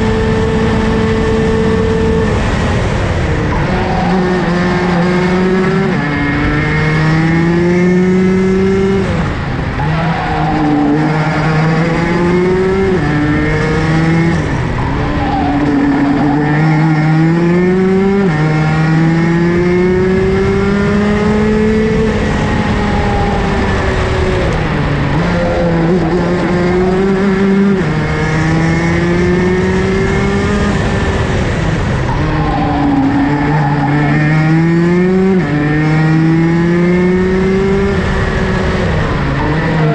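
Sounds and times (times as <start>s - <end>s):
road and wind noise: 0.0s - 39.9s
two-stroke kart engine revving: 0.0s - 39.9s.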